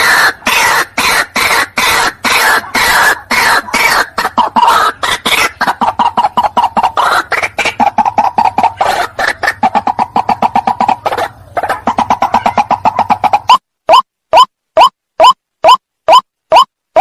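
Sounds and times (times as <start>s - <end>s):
waterhen harsh croaks: 0.0s - 13.6s
waterhen rapid repeated notes: 0.0s - 17.0s.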